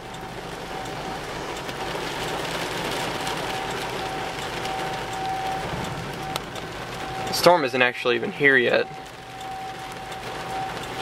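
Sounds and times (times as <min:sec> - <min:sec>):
distant warning siren: 0:00.0 - 0:11.0.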